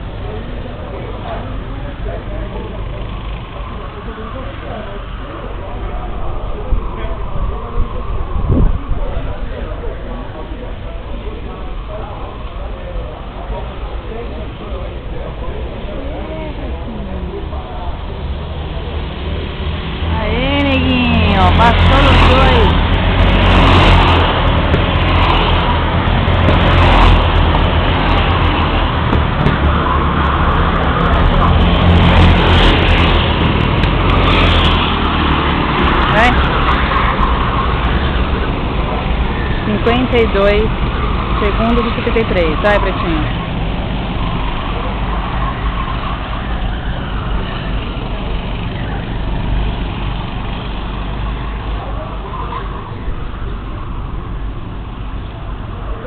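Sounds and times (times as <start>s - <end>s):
go-kart engines passing: 0.0s - 56.0s
steady low rumble: 0.0s - 56.0s.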